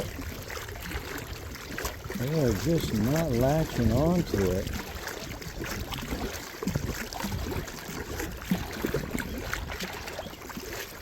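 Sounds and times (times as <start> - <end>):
paddle splashing water: 0.0 - 11.0.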